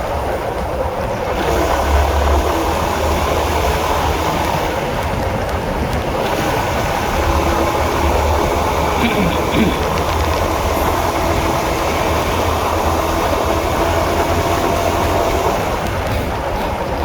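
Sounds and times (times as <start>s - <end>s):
motorcycle engine rumbling: 0.0s - 17.0s
road noise: 0.0s - 17.0s.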